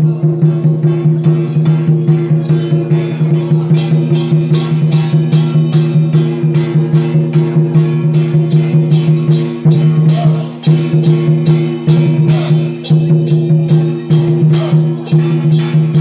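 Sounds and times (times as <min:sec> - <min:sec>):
music with fast beat: 0:00.0 - 0:16.0.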